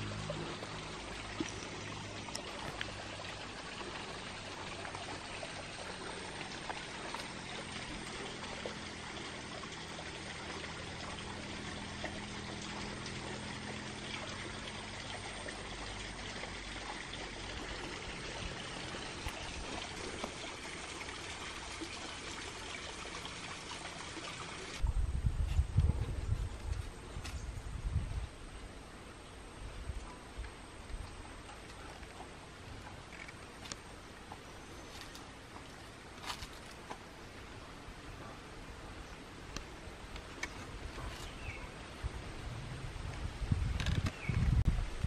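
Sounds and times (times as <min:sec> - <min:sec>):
flowing water: 0:00.0 - 0:24.9, 0:25.6 - 0:45.0.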